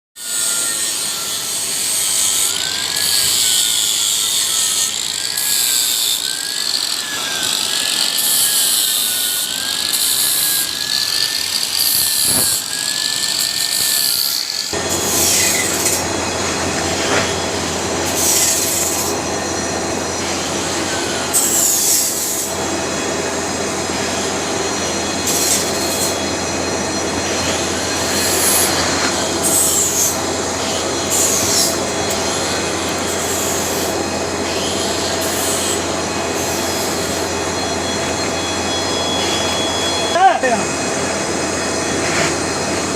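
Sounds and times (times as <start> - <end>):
power tool grinding metal: 0.2 - 42.9.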